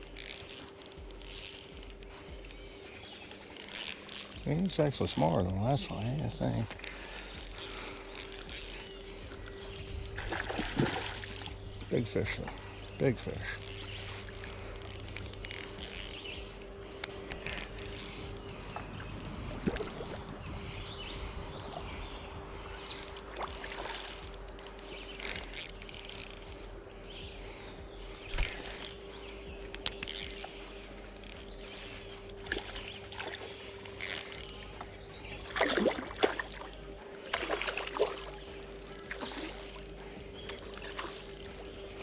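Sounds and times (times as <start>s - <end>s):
faint steady hum: 0.0s - 42.0s
fish splashing in water: 0.0s - 42.0s.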